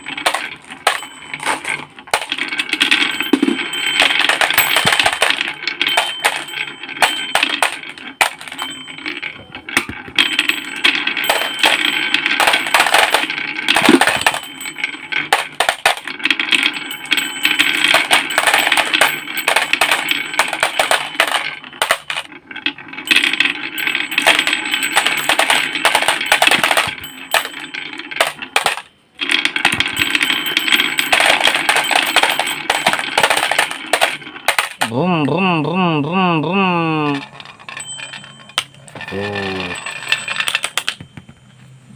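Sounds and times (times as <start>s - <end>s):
plastic toys clattering: 0.0s - 41.4s.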